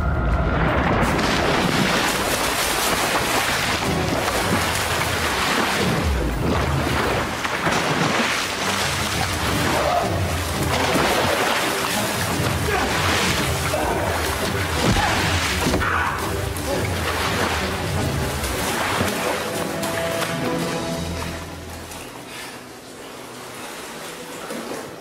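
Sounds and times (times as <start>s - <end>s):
pool water splashing: 1.0s - 25.0s.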